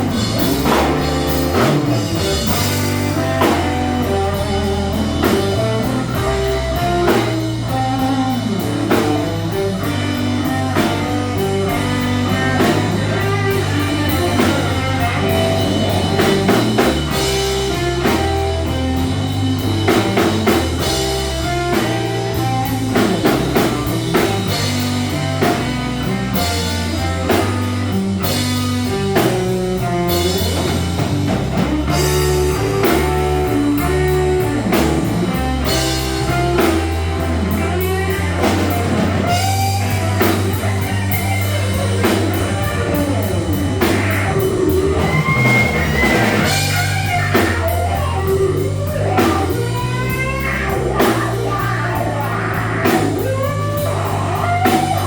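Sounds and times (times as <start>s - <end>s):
drum kit: 0.0s - 55.0s
electric guitar lead: 0.0s - 55.0s
walking bass line: 0.0s - 55.0s.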